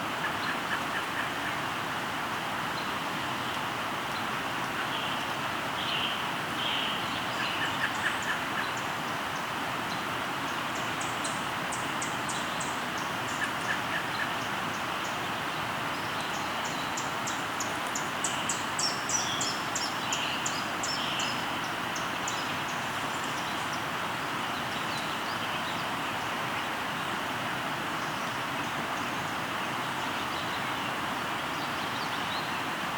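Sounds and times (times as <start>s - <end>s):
river flowing: 0.0s - 32.9s
birds singing: 2.8s - 27.1s, 28.0s - 32.7s.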